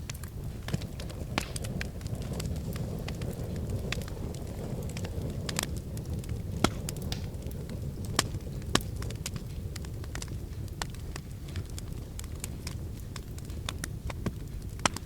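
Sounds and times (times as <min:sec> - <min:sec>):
sharp snaps and pops of fire: 0:00.0 - 0:15.0
steady low rumble: 0:00.0 - 0:15.0
wood fire crackling: 0:00.0 - 0:15.0.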